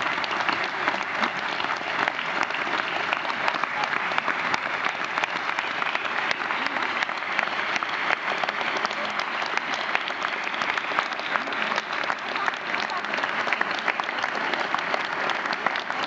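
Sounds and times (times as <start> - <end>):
audience clapping: 0.0 - 16.0.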